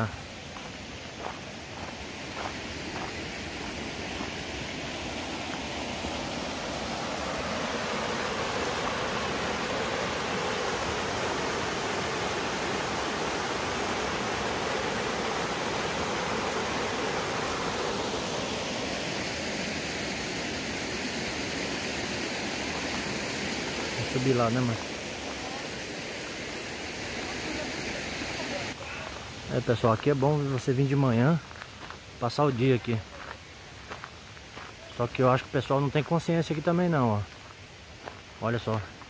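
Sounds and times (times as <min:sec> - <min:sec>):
stream rushing over rocks: 0:00.0 - 0:39.0.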